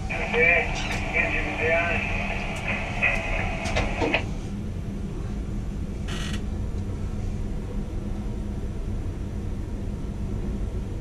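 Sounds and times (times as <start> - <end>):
low mechanical crane hum: 0.0 - 11.0.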